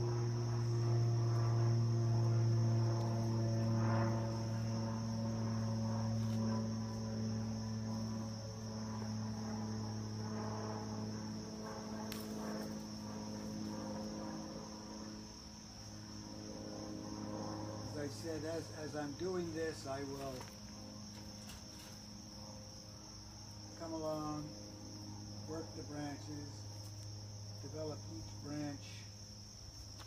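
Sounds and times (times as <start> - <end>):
insects chirring: 0.0 - 30.0
steady low hum: 0.0 - 30.0.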